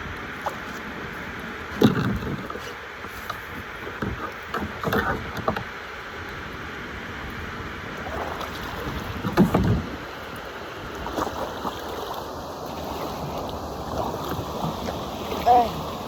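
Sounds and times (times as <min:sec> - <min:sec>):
kayak paddle splashing in water: 0:00.0 - 0:05.9, 0:07.8 - 0:16.0
wind: 0:00.0 - 0:16.0.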